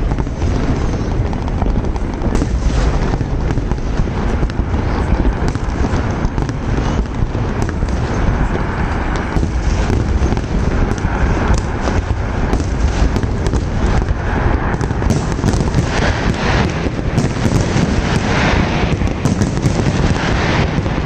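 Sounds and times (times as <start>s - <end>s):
firework crackles and pops: 0.0s - 21.0s
low rumble of firework bursts: 0.0s - 21.0s.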